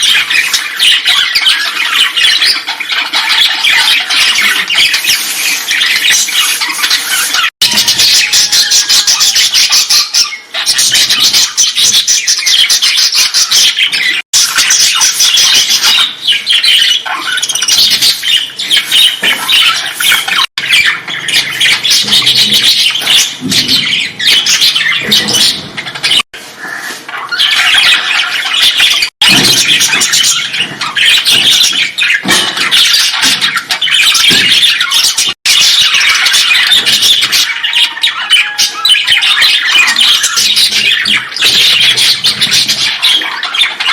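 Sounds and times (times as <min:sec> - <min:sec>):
birds calling and squawking: 0:00.0 - 0:43.9.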